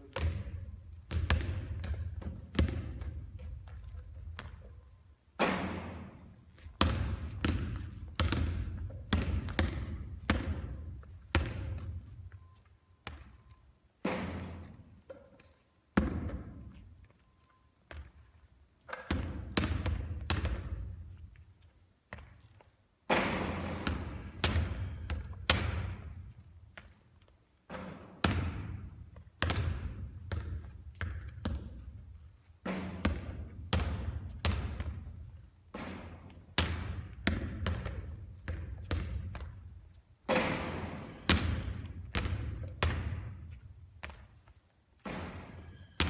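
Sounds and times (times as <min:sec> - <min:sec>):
basketball bouncing on hard court: 0:00.0 - 0:15.3, 0:16.0 - 0:16.9, 0:17.9 - 0:21.4, 0:22.1 - 0:27.0, 0:27.7 - 0:45.8.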